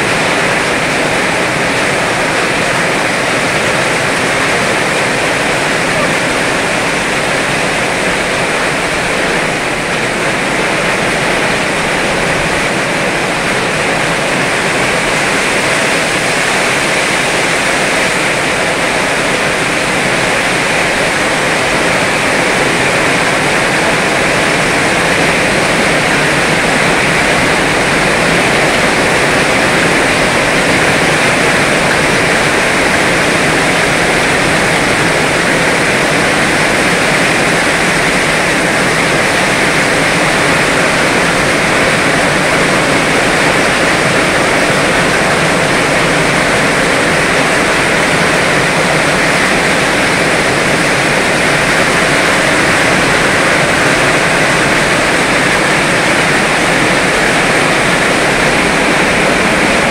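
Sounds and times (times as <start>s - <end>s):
heavy rain pouring: 0.0s - 59.9s
water streaming off roof: 0.0s - 59.9s.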